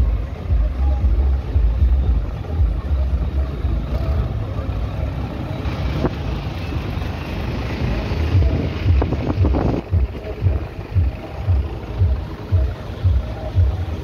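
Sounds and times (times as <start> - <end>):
road traffic rumble: 0.0 - 14.0
van engine running: 0.0 - 14.0.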